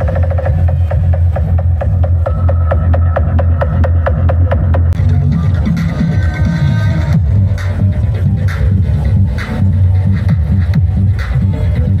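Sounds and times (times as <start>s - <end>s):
electronic dance music with booming bass: 0.0s - 12.0s.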